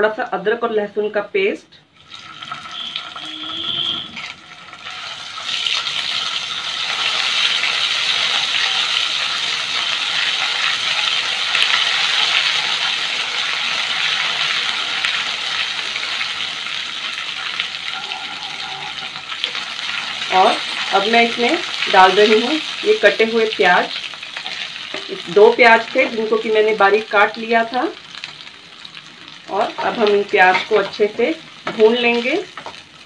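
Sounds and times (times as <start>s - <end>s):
paste sizzling in hot oil: 4.2s - 33.0s.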